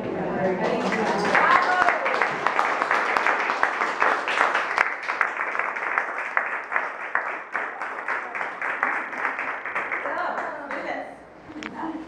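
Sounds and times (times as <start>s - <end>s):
audience applauding: 0.5s - 10.9s.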